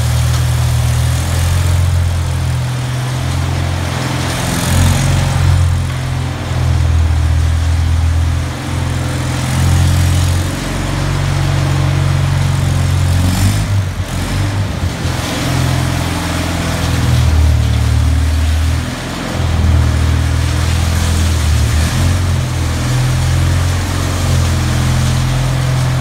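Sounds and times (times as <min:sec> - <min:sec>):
concrete trowel engine running: 0:00.0 - 0:26.0.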